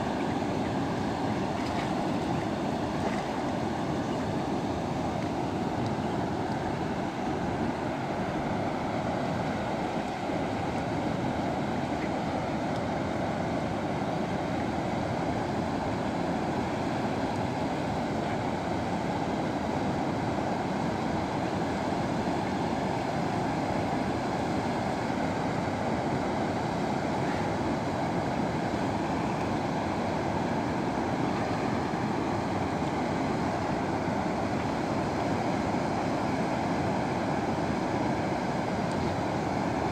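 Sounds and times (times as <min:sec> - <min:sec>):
river water rushing over weir: 0:00.0 - 0:39.9.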